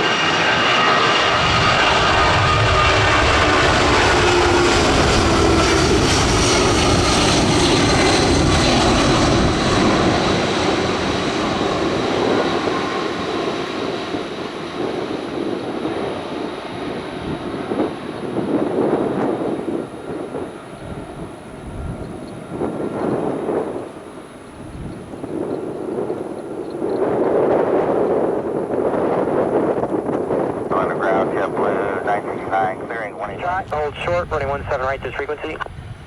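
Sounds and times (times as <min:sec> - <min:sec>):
jet engines roaring with whine: 0:00.0 - 0:36.0.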